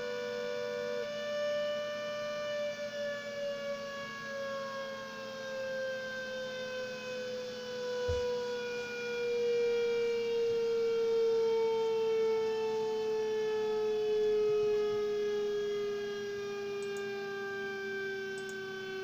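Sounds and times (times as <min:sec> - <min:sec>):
siren steady tone: 0:00.0 - 0:19.0.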